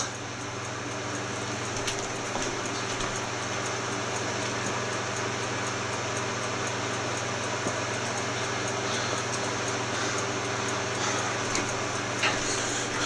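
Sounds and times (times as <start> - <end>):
faint ticking: 0.0 - 13.0
mechanical hum: 0.0 - 13.0.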